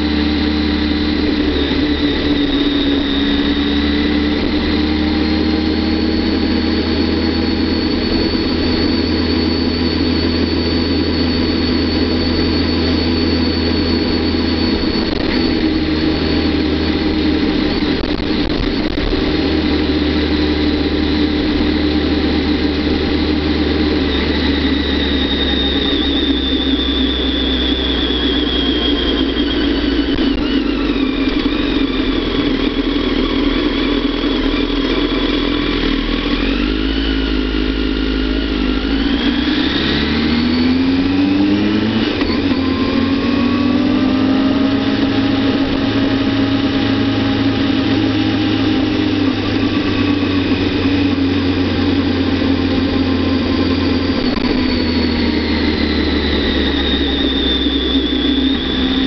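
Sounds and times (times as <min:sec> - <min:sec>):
high whine: 0:00.0 - 0:59.0
motorcycle engine running: 0:00.0 - 0:59.0.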